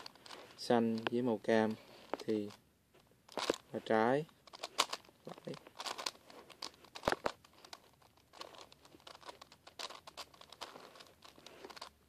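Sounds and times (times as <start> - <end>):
puzzle cube clicks and rattles: 0.0 - 2.6, 3.3 - 12.0.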